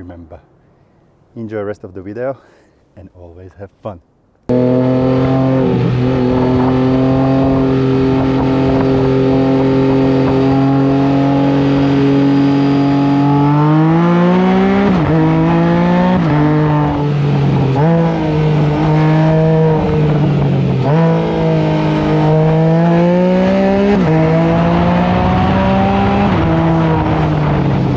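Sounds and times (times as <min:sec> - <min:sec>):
engine accelerating through gears: 0:04.5 - 0:27.9.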